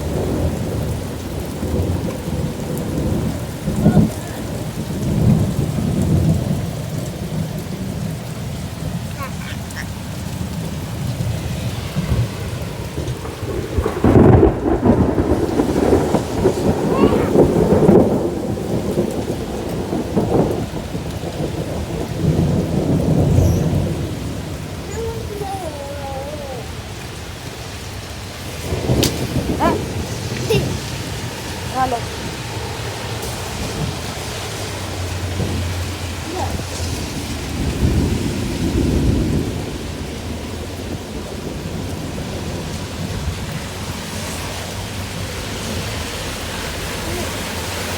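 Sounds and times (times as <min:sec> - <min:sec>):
heavy rain: 0:00.0 - 0:47.9
low rumble of thunder: 0:00.0 - 0:47.9.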